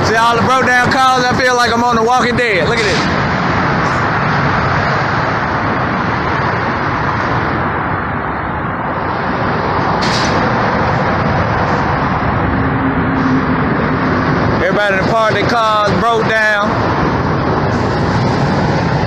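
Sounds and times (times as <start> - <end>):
traffic noise: 0.0 - 19.0
low hum: 2.7 - 19.0.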